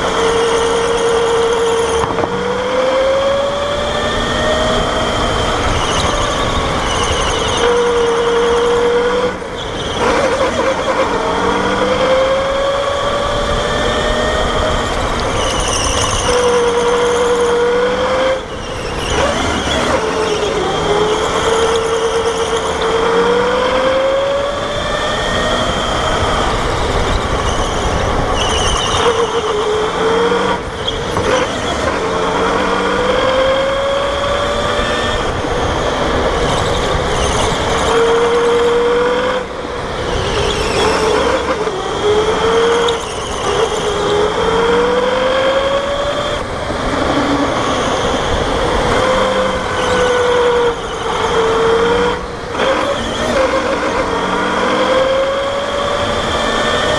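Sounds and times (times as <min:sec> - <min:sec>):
electric go-kart motor whining: 0:00.0 - 0:56.9
wind and tyre noise: 0:00.0 - 0:56.9.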